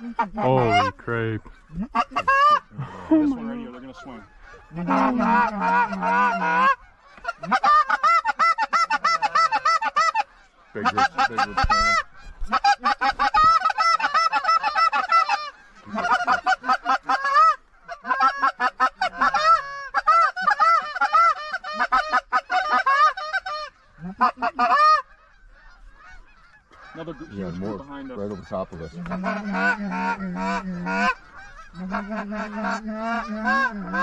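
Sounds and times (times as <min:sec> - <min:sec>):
geese honking and clucking: 0:00.0 - 0:34.0.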